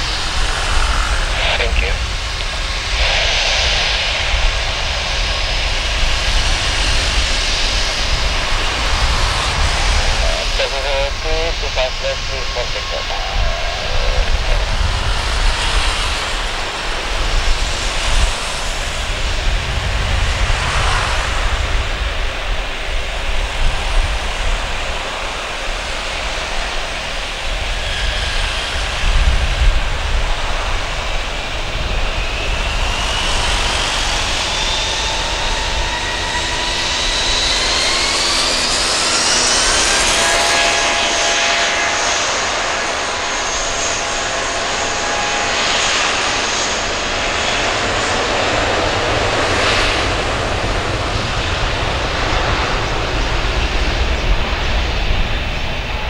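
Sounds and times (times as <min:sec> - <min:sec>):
jet engine roar: 0:00.0 - 0:56.0
jet engine whine rising: 0:00.0 - 0:56.0.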